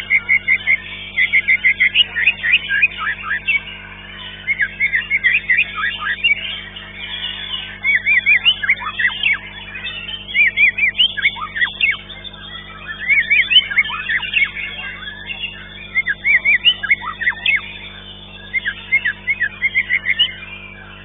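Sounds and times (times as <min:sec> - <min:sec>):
bird singing sharp chirps: 0:00.0 - 0:21.0
steady low hum: 0:00.0 - 0:21.0.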